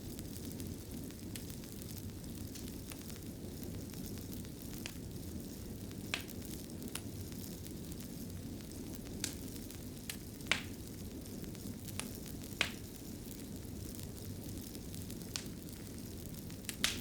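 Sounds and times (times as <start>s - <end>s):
fire crackling and rumbling: 0.0s - 17.0s.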